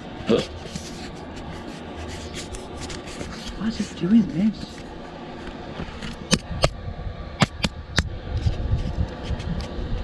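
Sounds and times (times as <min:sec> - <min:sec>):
fan heater blowing: 0:00.0 - 0:10.0.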